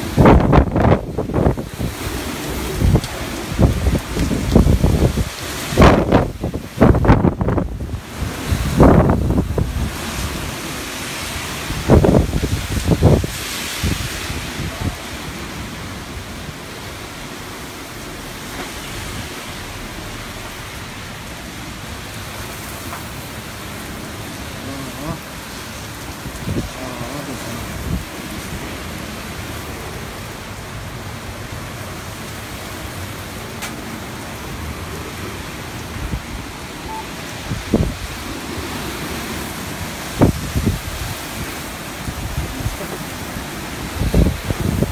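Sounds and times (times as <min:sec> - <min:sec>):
wind buffeting microphone: 0:00.0 - 0:17.2, 0:25.2 - 0:44.9
violent wind rushing: 0:00.0 - 0:44.9.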